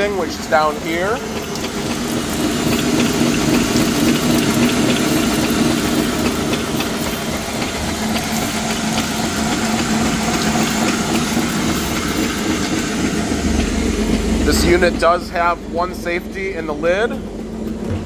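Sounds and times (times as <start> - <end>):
mixer grinder motor hum: 0.0 - 18.0.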